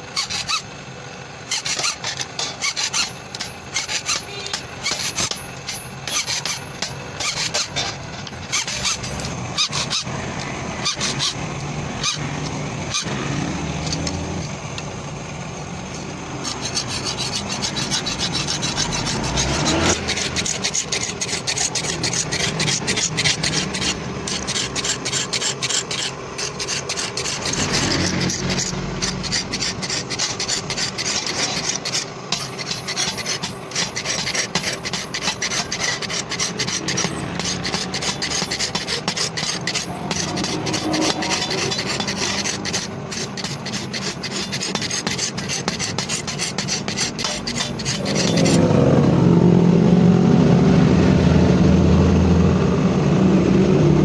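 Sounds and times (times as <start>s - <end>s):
hand file rasping on steel: 0.1s - 0.7s, 1.5s - 15.2s, 15.9s - 49.0s.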